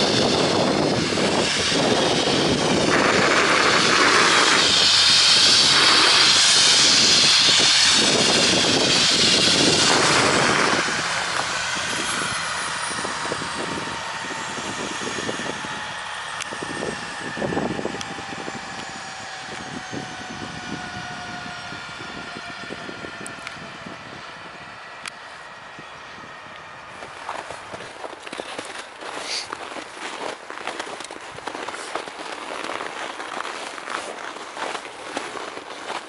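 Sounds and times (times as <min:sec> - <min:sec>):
helicopter turbine and rotor rush: 0:00.0 - 0:33.8, 0:34.4 - 0:36.0
turbine whine falling in pitch: 0:00.0 - 0:36.0.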